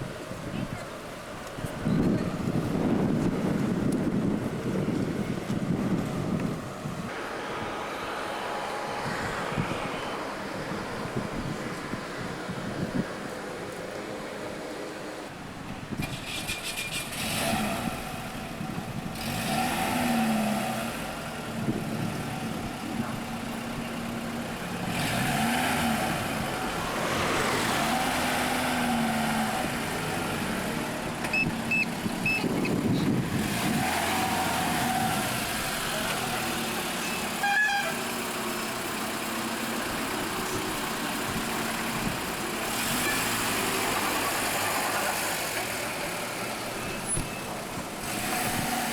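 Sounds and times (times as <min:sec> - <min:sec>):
car engines passing and revving: 0:00.0 - 0:48.9.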